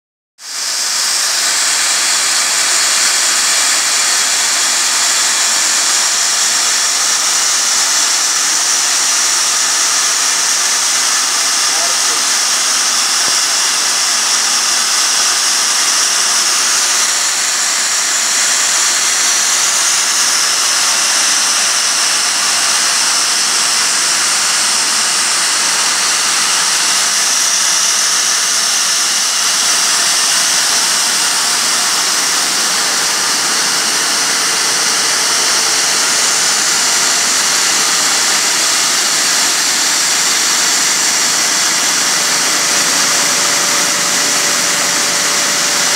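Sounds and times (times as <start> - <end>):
grain dryer fan hissing: 0.4 - 45.9.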